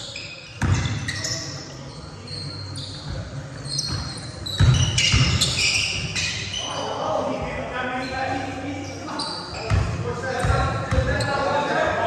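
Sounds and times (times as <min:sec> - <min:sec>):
sneaker squeaks: 0:00.0 - 0:11.8.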